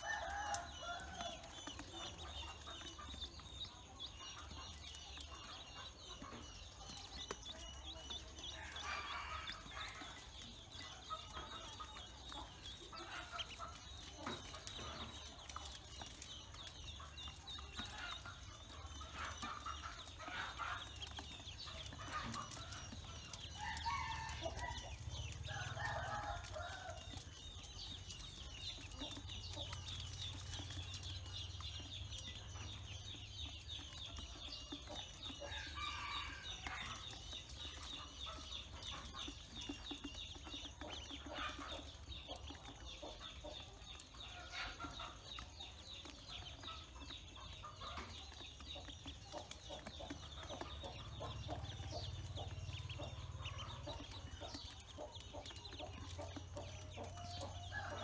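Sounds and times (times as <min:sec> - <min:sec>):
ducklings peeping: 0:00.0 - 0:58.0.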